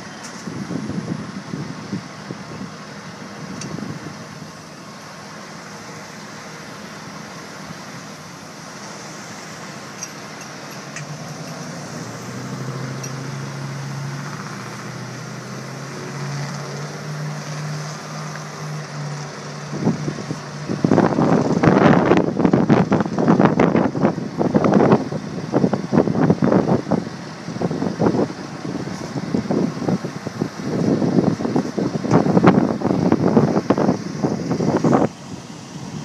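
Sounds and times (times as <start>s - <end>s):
low engine hum: 0.0s - 36.0s
road traffic noise: 0.0s - 36.0s.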